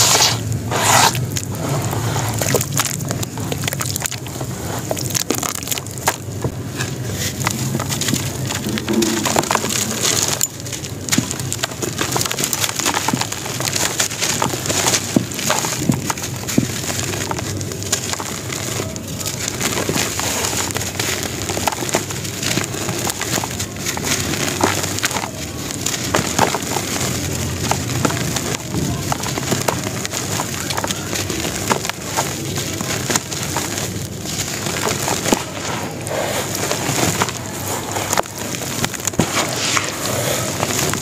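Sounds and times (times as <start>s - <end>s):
cement chunks crumbled by hand: 0.0s - 41.0s
falling grit pattering: 0.0s - 41.0s.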